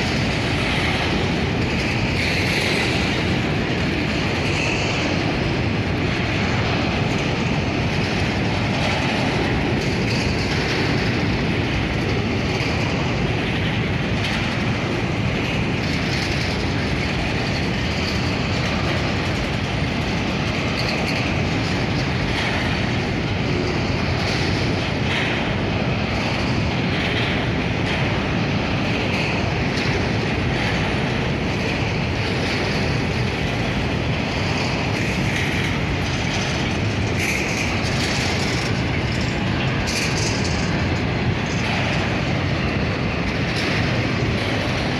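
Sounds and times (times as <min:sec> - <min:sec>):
clacking over rail joints: 0:00.0 - 0:44.9
steel wheels rumbling on rail: 0:00.0 - 0:44.9.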